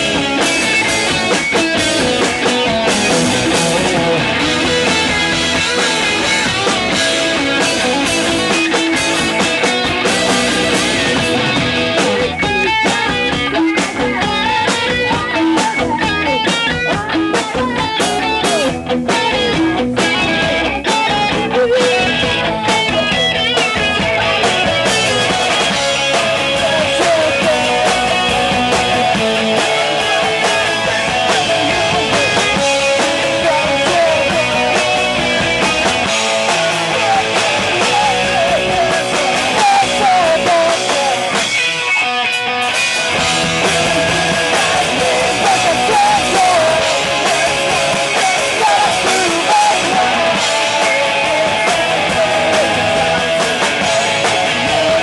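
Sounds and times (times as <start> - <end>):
rock band music: 0.0 - 55.0.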